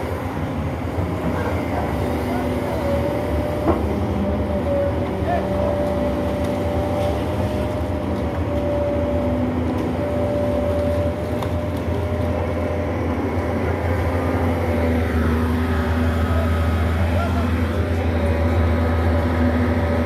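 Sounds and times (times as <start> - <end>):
excavator diesel engine rumble: 0.0 - 20.0.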